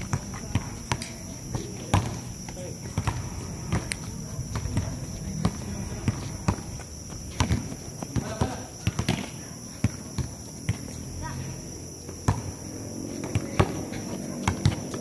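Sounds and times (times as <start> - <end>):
high insect drone: 0.0 - 15.0
basketball bouncing on hard court: 0.1 - 10.8, 12.3 - 12.5, 13.2 - 15.0.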